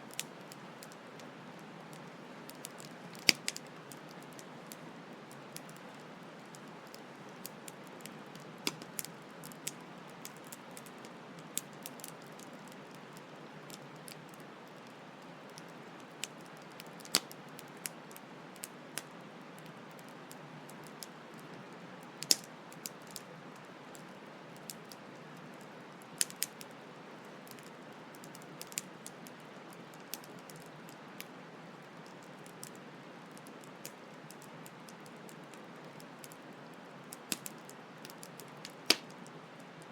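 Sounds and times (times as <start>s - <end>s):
campfire crackling and popping: 0.1s - 39.8s.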